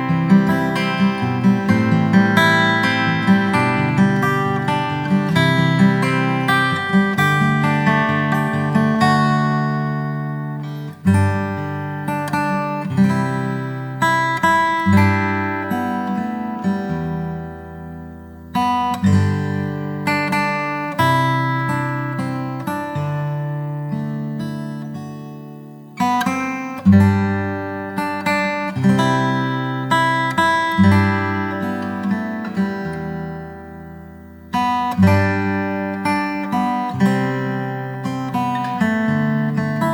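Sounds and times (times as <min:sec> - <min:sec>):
acoustic guitar picking and strumming: 0:00.0 - 0:39.9.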